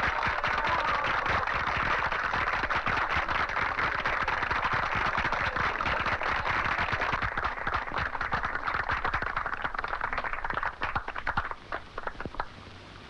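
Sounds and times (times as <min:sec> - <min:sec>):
crowd applauding: 0:00.0 - 0:12.5.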